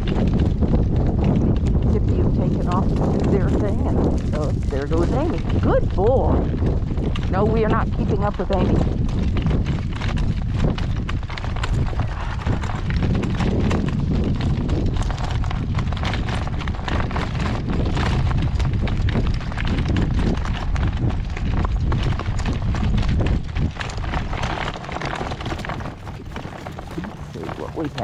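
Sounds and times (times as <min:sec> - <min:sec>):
horse hooves clip-clopping: 0:00.0 - 0:28.0
wind buffeting microphone: 0:00.0 - 0:28.0.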